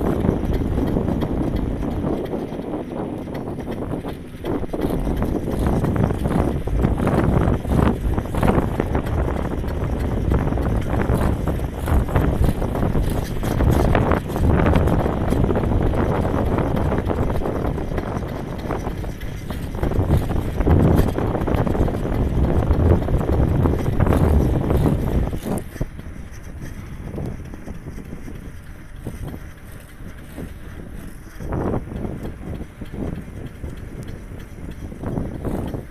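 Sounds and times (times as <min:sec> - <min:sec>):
bike knocks and rattles: 0:00.0 - 0:35.9
wind buffeting microphone: 0:00.0 - 0:35.9.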